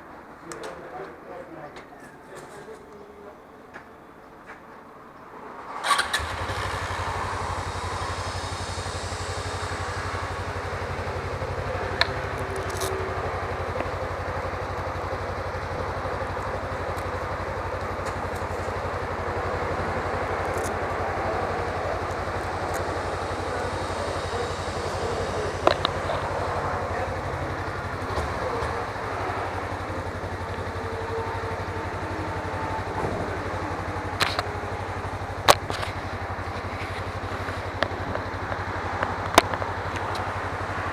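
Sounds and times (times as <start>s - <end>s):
motorcycle engine running: 5.8s - 40.9s.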